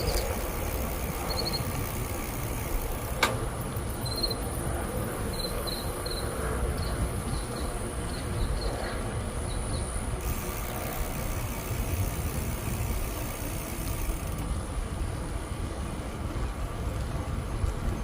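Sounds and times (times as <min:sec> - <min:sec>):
insects droning: 0:00.0 - 0:16.2
bicycle rolling noise: 0:00.0 - 0:18.0
wind rumble: 0:00.0 - 0:18.0.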